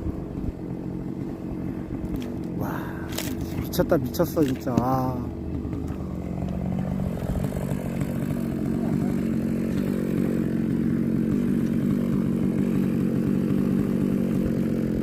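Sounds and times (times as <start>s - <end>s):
small engine running steadily: 0.0s - 15.0s.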